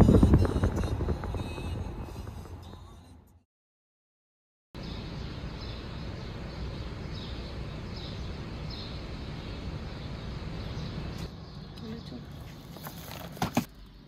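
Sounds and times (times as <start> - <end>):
outdoor background rumble: 0.0 - 3.4, 4.8 - 14.0.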